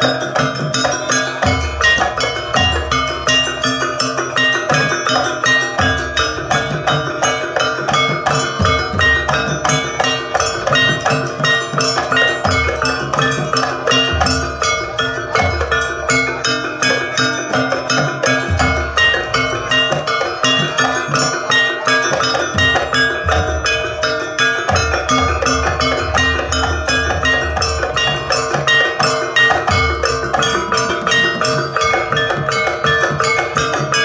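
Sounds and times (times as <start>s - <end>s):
low drum beats: 0.0s - 34.0s
tuned bronze percussion notes: 0.0s - 34.0s.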